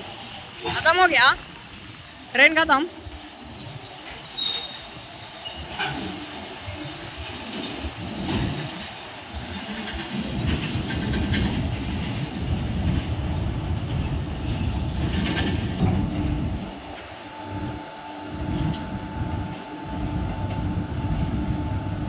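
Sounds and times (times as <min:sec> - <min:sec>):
steel wheels rumbling on rails: 0:00.0 - 0:22.0.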